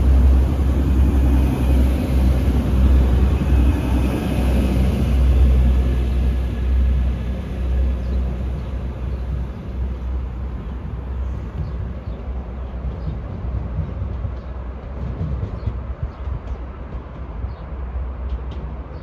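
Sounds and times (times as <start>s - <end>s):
diesel train engine drone: 0.0s - 19.0s.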